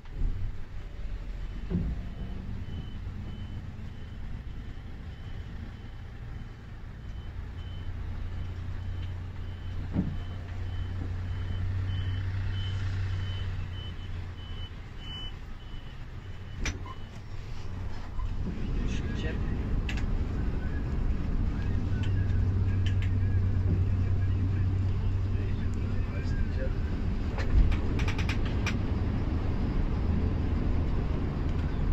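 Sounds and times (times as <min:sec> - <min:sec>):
coach engine humming: 0:00.0 - 0:31.9.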